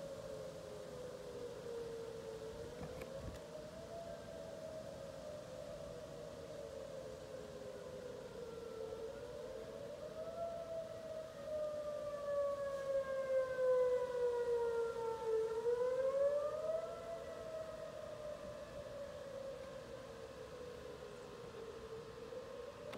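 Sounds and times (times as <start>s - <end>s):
warning siren wailing: 0.0s - 22.9s.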